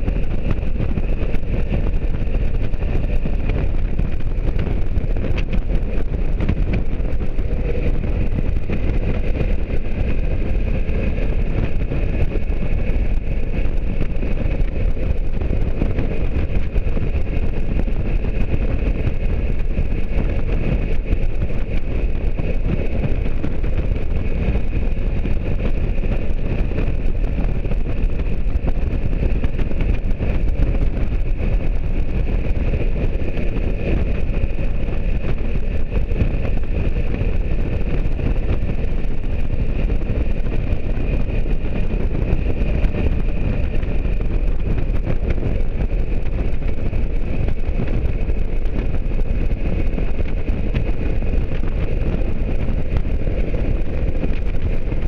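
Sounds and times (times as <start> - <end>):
motorcycle engine drone: 0.0 - 55.0
wind rushing over microphone: 0.0 - 55.0.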